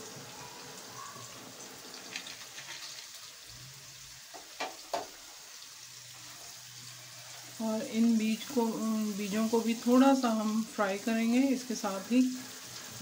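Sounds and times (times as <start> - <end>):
sharp oil crackles: 0.0 - 13.0
vegetables sizzling in oil: 0.0 - 13.0.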